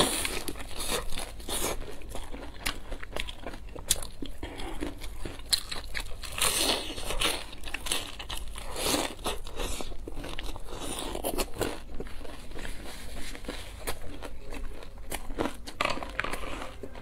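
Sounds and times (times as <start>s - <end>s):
crunching and chewing: 0.0s - 17.0s.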